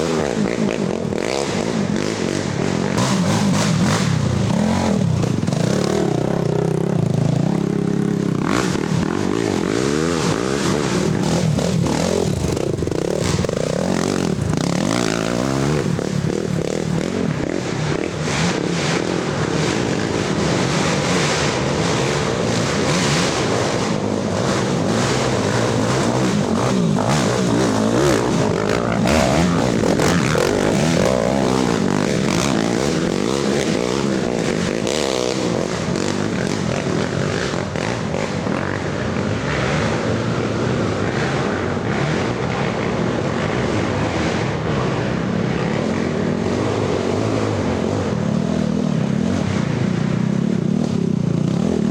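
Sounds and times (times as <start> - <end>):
atv engines revving: 0.0 - 51.9.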